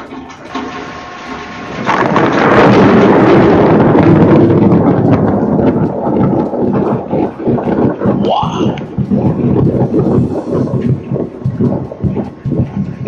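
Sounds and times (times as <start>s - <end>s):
loud thunder rumbling: 0.0s - 13.0s.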